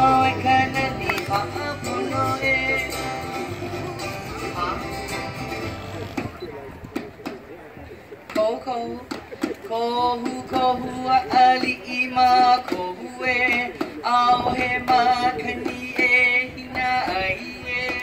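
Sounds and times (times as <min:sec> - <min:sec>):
hula song with vibrato: 0:00.0 - 0:06.2, 0:08.3 - 0:18.0.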